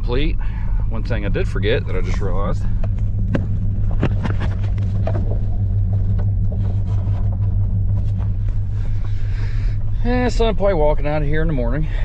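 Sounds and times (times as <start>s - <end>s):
engine and road rumble in cabin: 0.0s - 12.0s.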